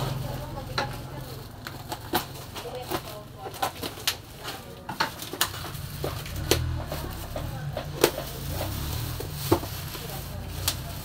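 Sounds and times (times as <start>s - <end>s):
bubble wrap crinkling and snapping: 0.0s - 11.0s.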